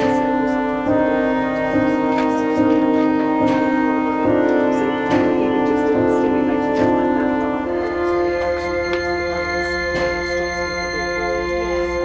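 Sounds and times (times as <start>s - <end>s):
background music of held chords: 0.0s - 12.0s.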